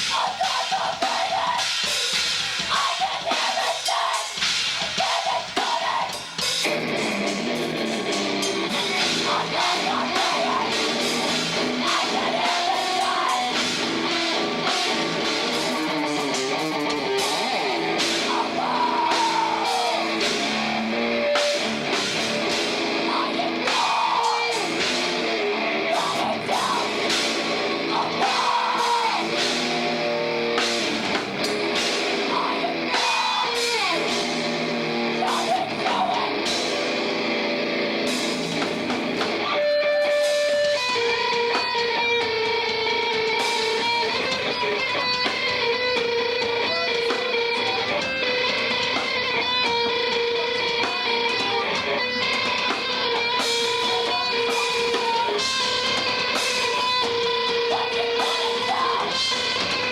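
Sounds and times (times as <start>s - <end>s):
bass guitar: 0.0s - 59.9s
distorted electric guitars: 0.0s - 59.9s
drum kit pounding: 0.0s - 59.9s.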